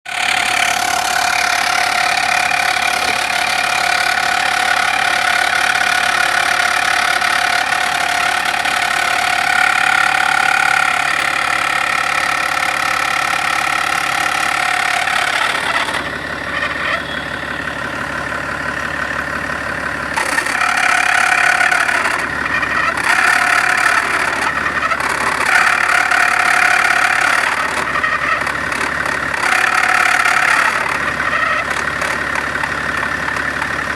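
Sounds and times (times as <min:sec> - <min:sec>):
car engine running with a knock: 0:00.0 - 0:33.9.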